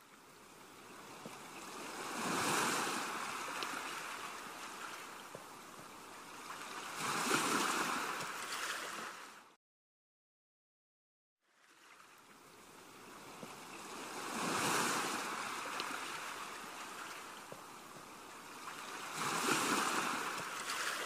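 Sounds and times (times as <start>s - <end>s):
waves washing on a sandy beach: 0.0s - 9.5s, 11.5s - 21.0s.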